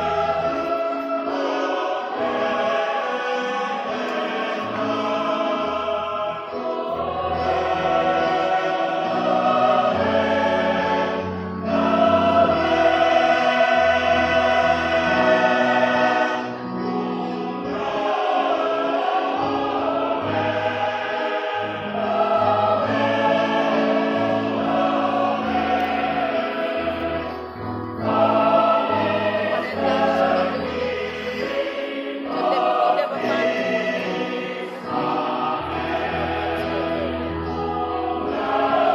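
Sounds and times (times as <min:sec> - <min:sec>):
church choir singing a hymn: 0:00.0 - 0:38.9.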